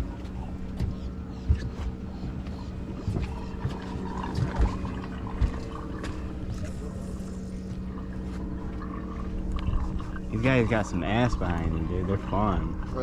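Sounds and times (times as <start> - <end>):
dull low thumps: 0.0 - 12.9
boat engine idling: 0.0 - 13.0.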